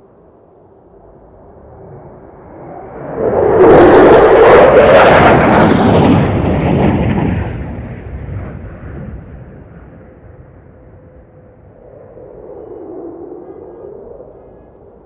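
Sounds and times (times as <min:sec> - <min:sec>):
fighter jet passing: 0:00.2 - 0:15.0.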